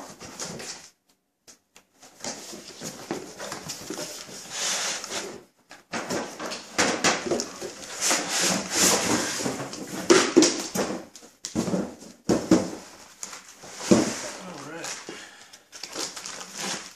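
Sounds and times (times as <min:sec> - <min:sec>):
cardboard and plastic scraping: 0:02.0 - 0:16.9.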